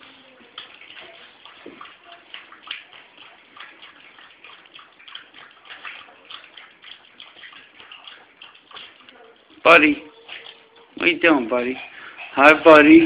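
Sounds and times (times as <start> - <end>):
dog lapping from a bowl: 0.0 - 13.0.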